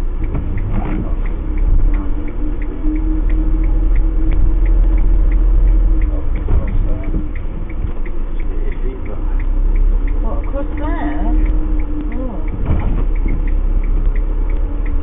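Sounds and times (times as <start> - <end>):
engine and road rumble: 0.0 - 15.0
light regular ticking: 0.0 - 15.0
steady hum: 0.0 - 15.0.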